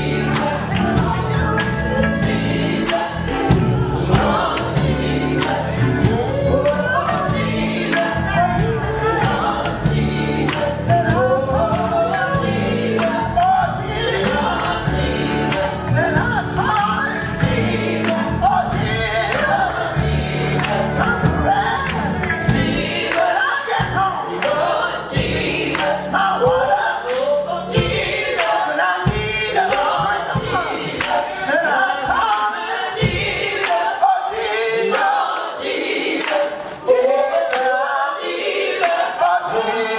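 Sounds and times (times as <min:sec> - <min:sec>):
band with drums: 0:00.0 - 0:31.5, 0:32.1 - 0:34.0
gospel group singing: 0:00.0 - 0:39.9.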